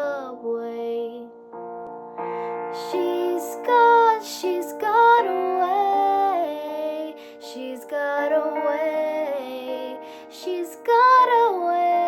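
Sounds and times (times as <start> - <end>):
held keyboard chords: 0.0 - 12.0.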